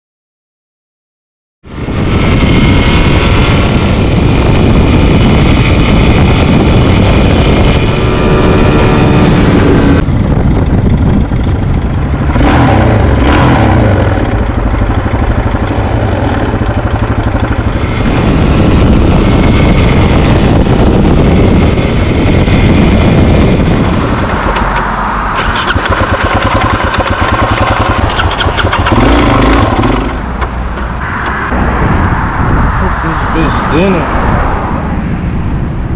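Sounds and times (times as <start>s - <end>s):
motorcycle engine running: 1.7s - 31.5s.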